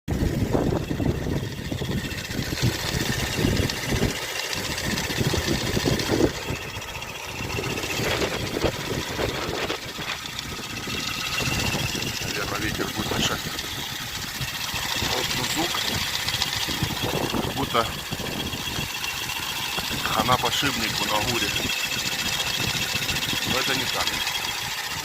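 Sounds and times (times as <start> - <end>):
car engine idling: 0.1 - 25.0
wind buffeting microphone: 0.1 - 25.0.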